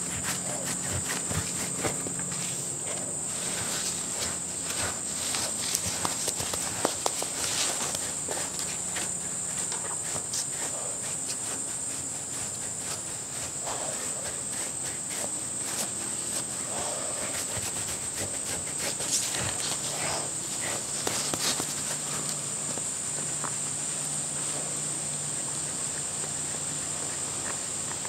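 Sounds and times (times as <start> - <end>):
brush stroking dog's coat: 0.1 - 23.3.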